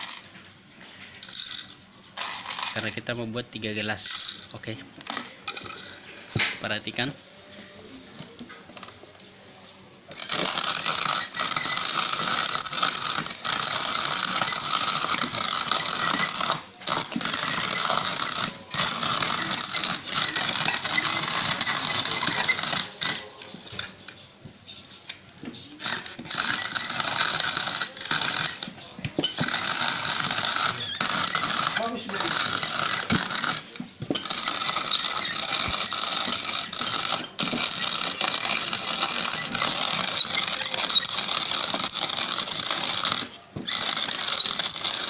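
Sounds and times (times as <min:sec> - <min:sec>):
hand-crank coffee grinder grinding: 0:00.0 - 0:07.1, 0:08.0 - 0:09.0, 0:10.1 - 0:24.2, 0:25.1 - 0:45.0.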